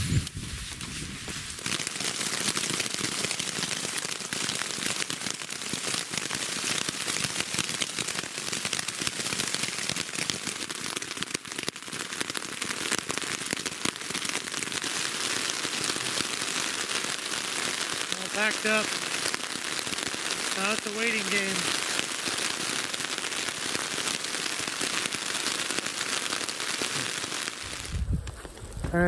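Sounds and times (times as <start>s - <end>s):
rain pattering on tent fabric: 0.0s - 29.0s.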